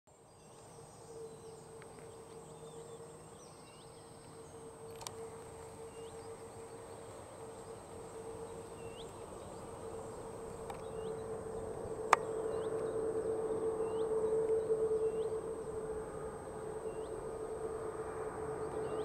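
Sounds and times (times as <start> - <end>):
jet engines whine and rumble: 0.1 - 19.0
bird chirping: 0.2 - 19.0.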